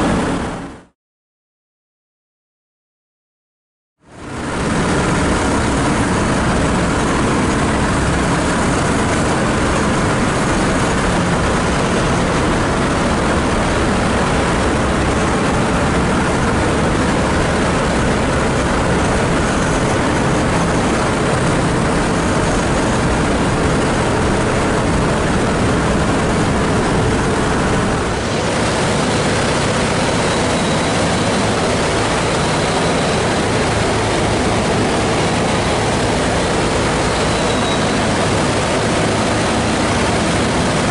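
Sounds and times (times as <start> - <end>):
propeller and airflow noise: 0.0 - 1.0, 4.0 - 40.9
radial engines droning: 4.0 - 40.9.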